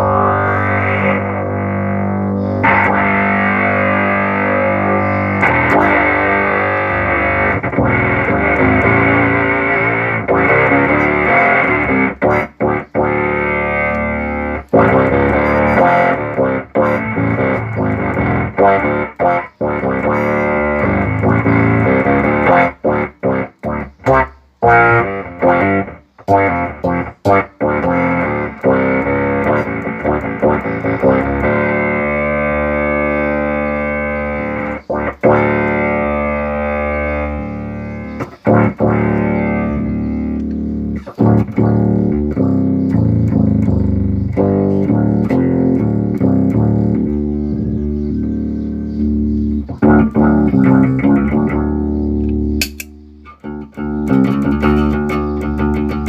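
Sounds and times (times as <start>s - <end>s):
synth bass notes: 0.0s - 56.0s.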